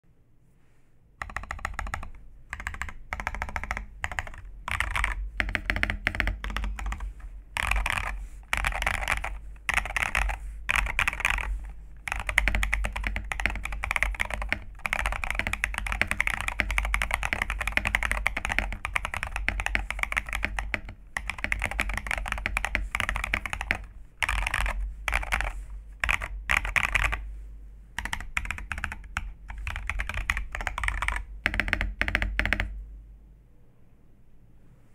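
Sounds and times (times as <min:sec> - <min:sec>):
mechanical keyboard typing: 0:01.2 - 0:27.2, 0:28.0 - 0:32.8.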